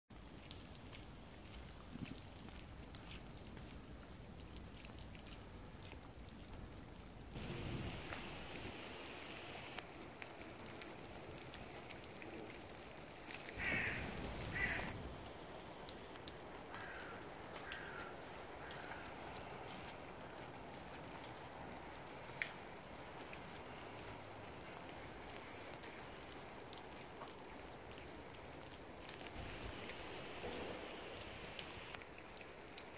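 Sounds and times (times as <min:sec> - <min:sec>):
light drips and ticks: 0:00.1 - 0:32.9.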